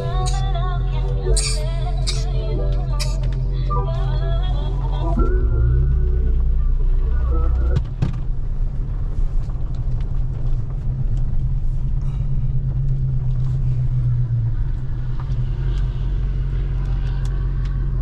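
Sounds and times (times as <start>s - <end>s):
car engine drone: 0.0s - 18.0s
road rumble: 0.0s - 18.0s.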